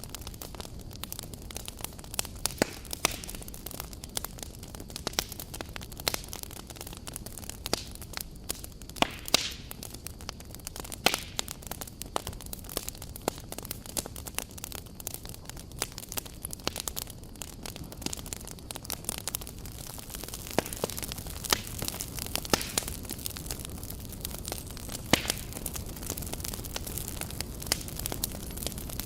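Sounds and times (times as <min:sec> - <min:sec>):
campfire crackling: 0:00.0 - 0:29.0
steady low hiss: 0:00.0 - 0:29.0.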